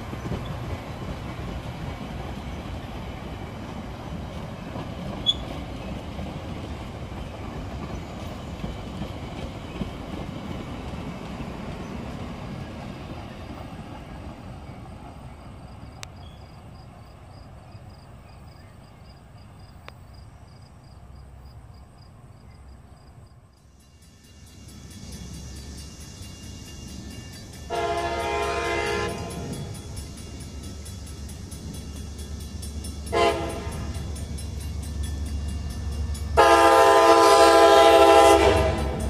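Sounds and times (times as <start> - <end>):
train wheels rumbling on rails: 0.0 - 20.2, 23.5 - 39.0.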